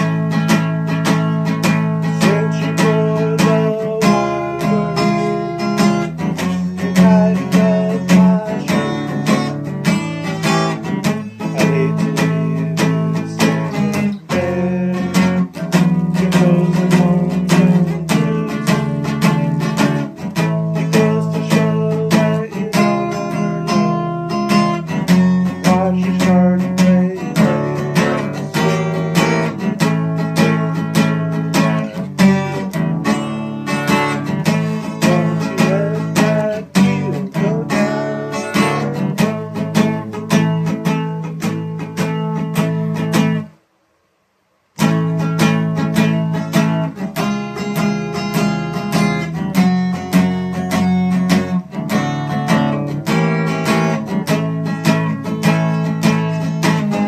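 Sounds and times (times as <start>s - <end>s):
acoustic guitar playing: 0.0s - 43.8s, 44.4s - 57.0s.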